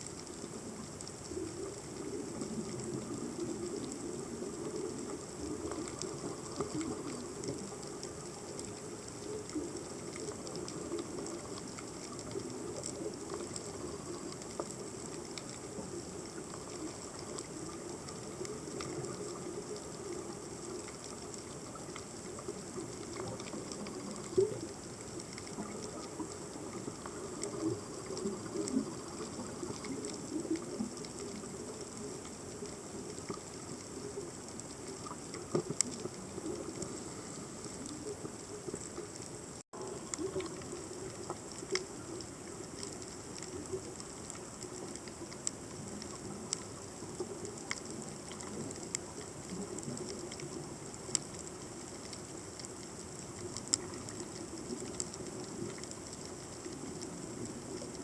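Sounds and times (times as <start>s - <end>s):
crackle of fine clicks underwater: 0.0s - 58.0s.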